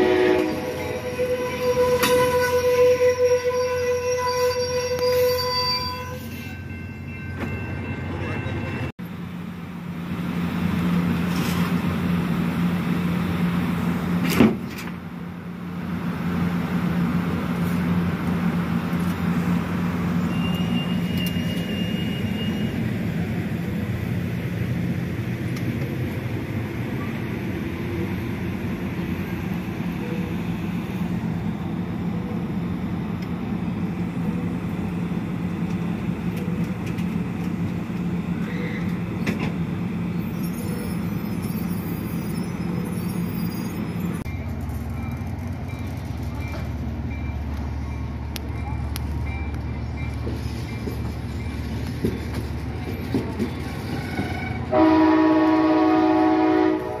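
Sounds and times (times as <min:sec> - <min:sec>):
train engine hum: 0:00.0 - 0:57.0.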